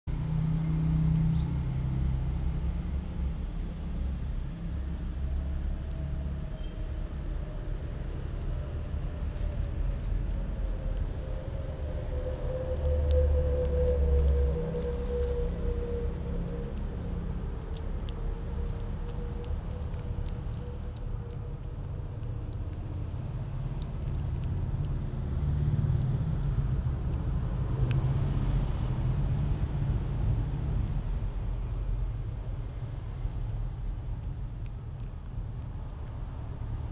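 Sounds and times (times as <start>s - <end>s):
vehicle engine rumbling: 0.0s - 36.9s.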